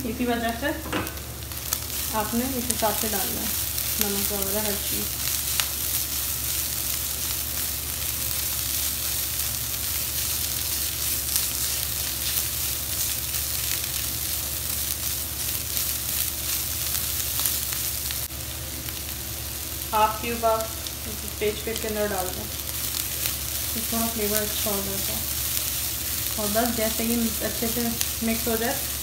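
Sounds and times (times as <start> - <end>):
food sizzling in frying pan: 0.0 - 29.0
steady low hum: 0.0 - 29.0.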